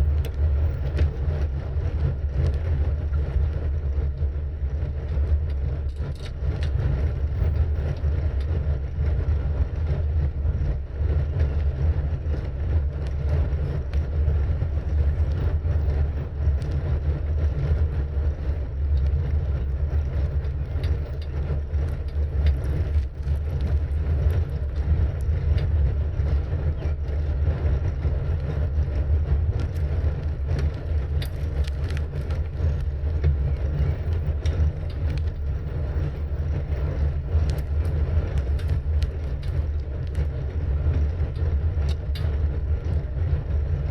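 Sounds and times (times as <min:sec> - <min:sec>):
bicycle tyre and road noise: 0:00.0 - 0:43.9
wind buffeting microphone: 0:00.0 - 0:43.9.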